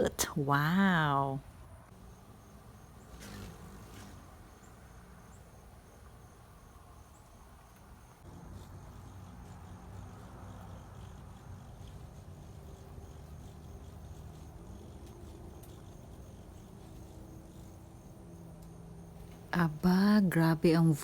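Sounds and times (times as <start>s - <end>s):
hummingbirds chirping: 0.0s - 21.0s.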